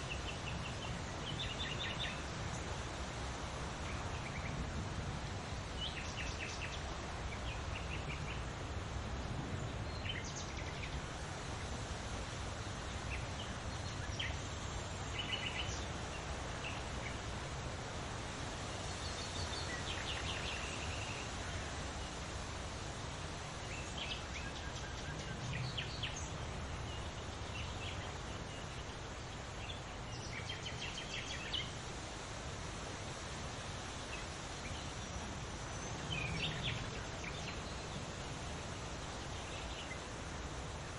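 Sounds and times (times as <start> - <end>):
rustling leaves: 0.0 - 40.9
songbirds chirping and trilling: 0.0 - 40.9
wind: 0.0 - 40.9.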